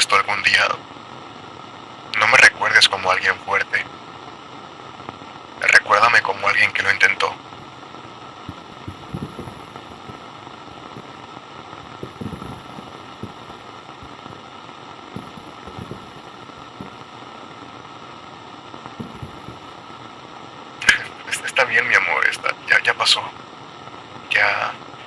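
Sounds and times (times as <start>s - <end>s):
walkie-talkie static: 0.0s - 0.8s, 2.1s - 4.1s, 5.5s - 18.3s, 19.0s - 20.1s, 20.8s - 23.4s, 24.2s - 25.0s.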